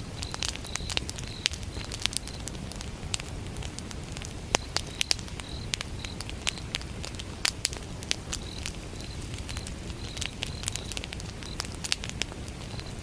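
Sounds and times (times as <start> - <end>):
cricket chirping: 0.0 - 2.8, 4.5 - 13.0
wood fire crackling and popping: 0.0 - 13.0.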